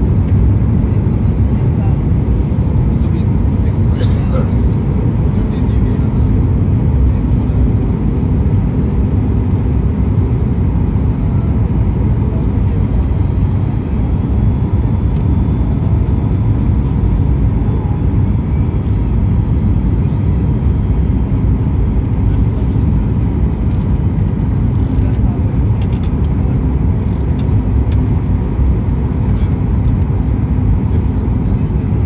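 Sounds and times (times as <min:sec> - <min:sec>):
airplane cabin engine noise: 0:00.0 - 0:32.0.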